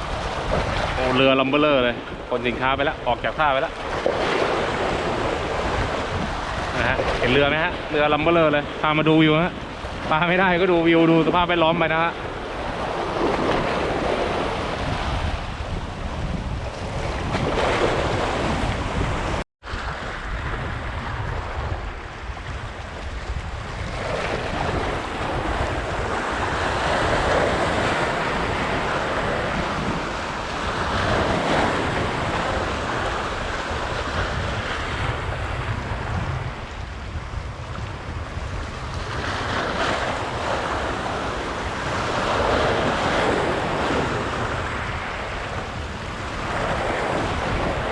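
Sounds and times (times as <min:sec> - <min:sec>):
sea waves washing against shore: 0:00.0 - 0:47.9
wind rumbling on microphone: 0:00.0 - 0:47.9.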